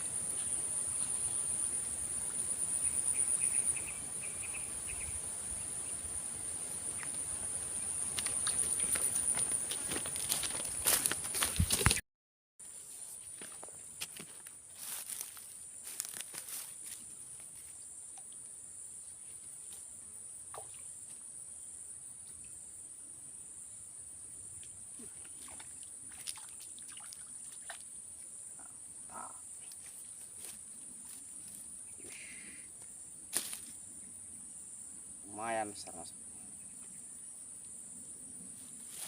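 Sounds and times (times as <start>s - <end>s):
insects droning: 0.0s - 12.0s, 12.6s - 39.0s.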